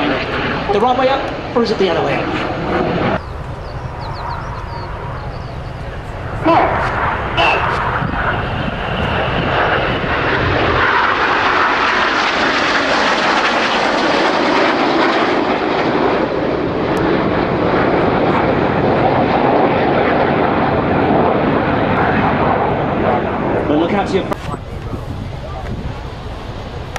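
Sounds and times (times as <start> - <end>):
jets passing overhead: 0.0 - 26.9.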